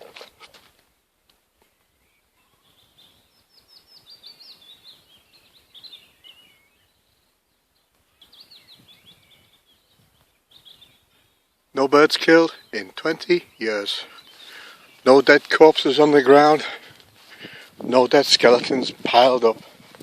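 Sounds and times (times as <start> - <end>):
birds chirping: 1.5 - 20.0.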